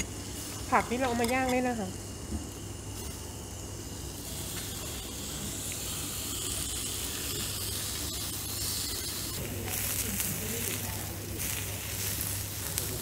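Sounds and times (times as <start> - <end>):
meat sizzling on grill plate: 0.0 - 13.0.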